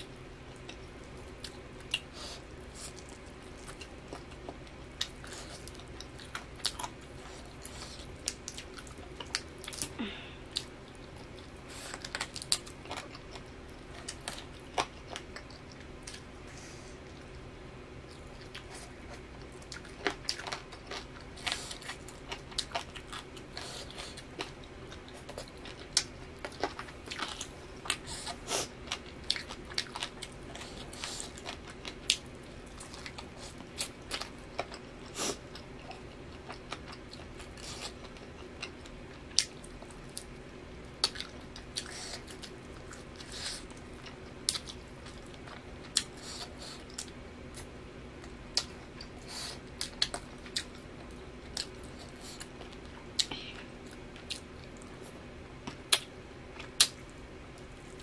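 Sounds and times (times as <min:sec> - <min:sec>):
chewing and biting food: 0:00.0 - 0:16.4, 0:18.0 - 0:58.0
faint steady hum: 0:00.0 - 0:58.0.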